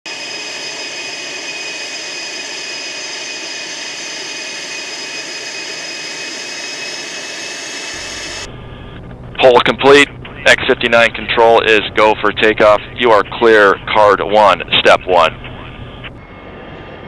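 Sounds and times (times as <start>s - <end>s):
jet engine hiss and whine: 0.1s - 17.0s.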